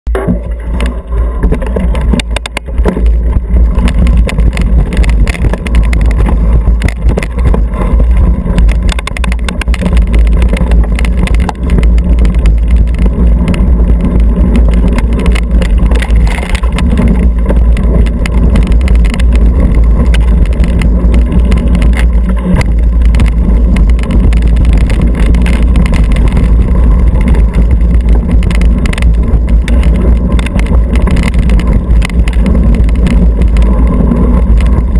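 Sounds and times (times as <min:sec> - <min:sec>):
bike rattling over stones: 0:00.1 - 0:34.9
wind buffeting and tyre rumble: 0:00.1 - 0:34.9.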